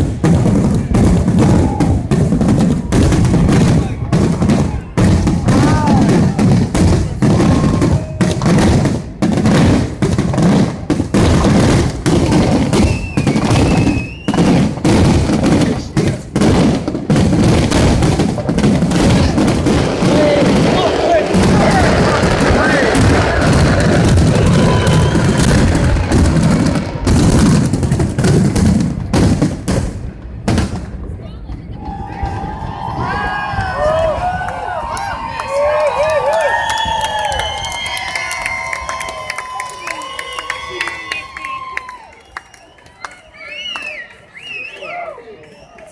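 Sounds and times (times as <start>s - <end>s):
fireworks bursting with booms and cracks: 0.0s - 41.6s.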